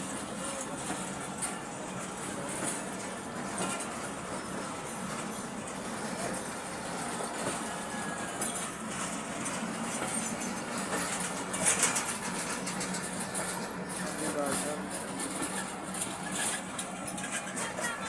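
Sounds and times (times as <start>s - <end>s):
train clatter: 0.0s - 18.0s
train wheels rumbling on rail: 0.0s - 18.0s.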